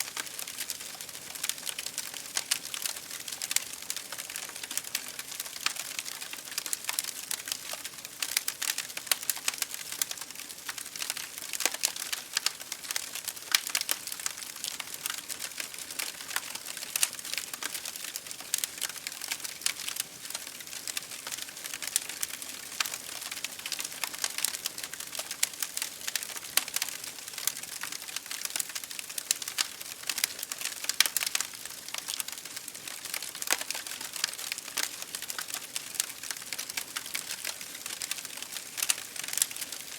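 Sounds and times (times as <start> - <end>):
rain against a window: 0.0 - 39.9
wood fire crackling: 0.0 - 39.9.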